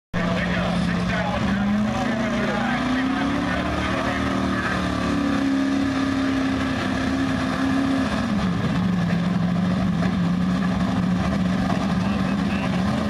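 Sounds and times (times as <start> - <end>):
truck engine at high revs: 0.2 - 13.0.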